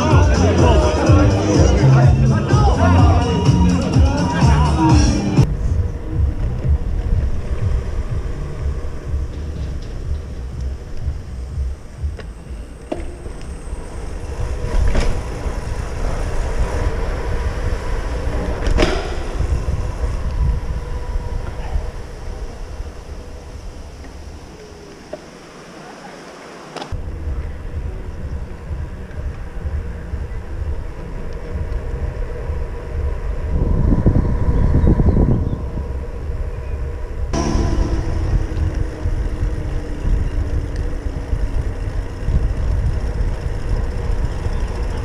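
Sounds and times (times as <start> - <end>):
rolling road noise: 0.0 - 45.0
wind rumble on microphone: 5.4 - 12.6, 13.2 - 24.7, 26.9 - 45.0.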